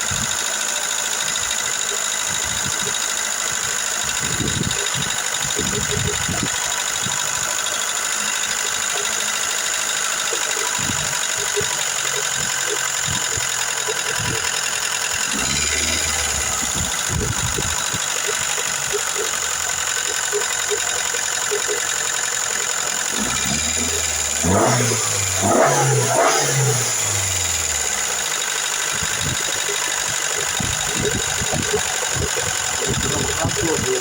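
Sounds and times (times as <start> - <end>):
car engine idling: 0.0 - 34.0
hydraulic lifters ticking: 0.1 - 34.0.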